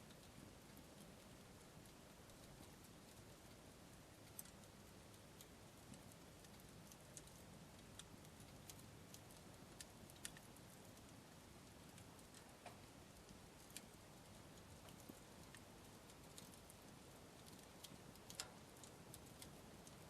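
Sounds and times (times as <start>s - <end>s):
campfire crackling and popping: 0.0s - 20.0s
low steady hiss: 0.0s - 20.0s.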